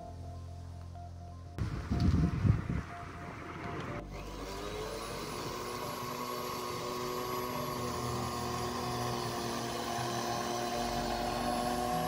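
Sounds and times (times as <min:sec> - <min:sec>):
electric lawn mower whining: 0:01.6 - 0:12.0.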